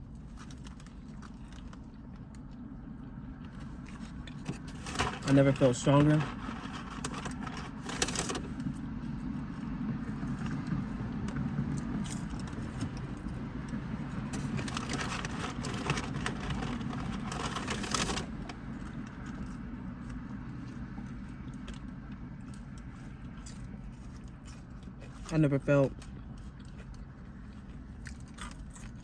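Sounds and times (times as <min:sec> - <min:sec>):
steady low rumble: 0:00.0 - 0:29.0
rustling and crackling handling: 0:00.1 - 0:29.0.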